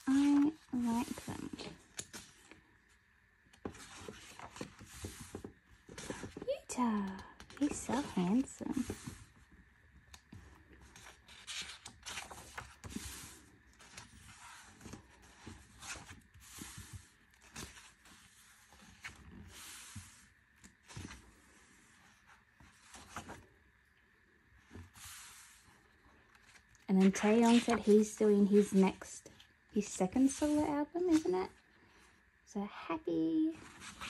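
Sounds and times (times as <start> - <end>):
book pages turning: 0.0 - 9.4, 10.0 - 23.6, 24.5 - 29.0, 30.2 - 31.5, 33.6 - 34.0.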